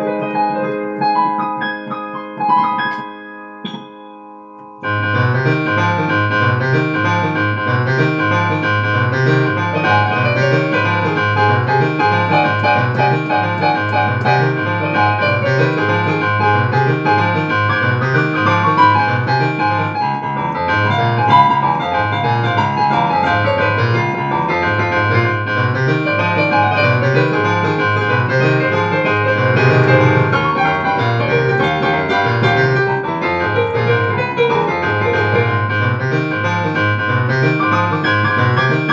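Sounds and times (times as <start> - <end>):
keyboard instrumental music: 0.0 - 38.9.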